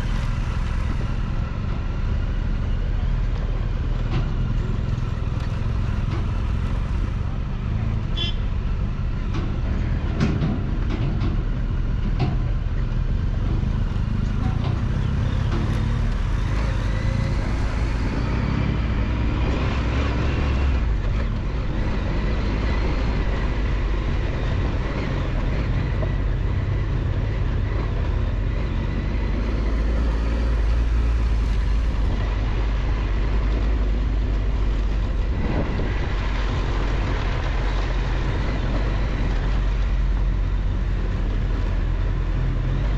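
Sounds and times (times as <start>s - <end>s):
wind and road rumble: 0.0s - 42.9s.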